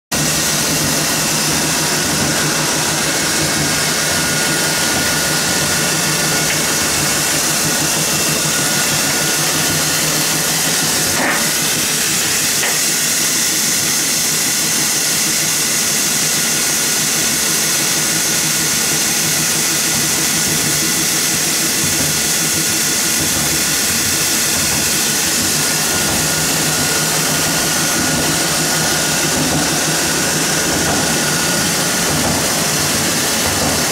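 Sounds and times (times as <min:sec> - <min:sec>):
machine running hum: 0:00.1 - 0:33.9.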